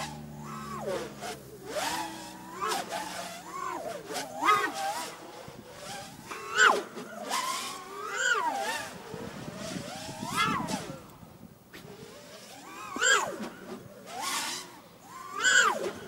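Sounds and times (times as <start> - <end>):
quadcopter motors buzzing: 0.0 - 16.0.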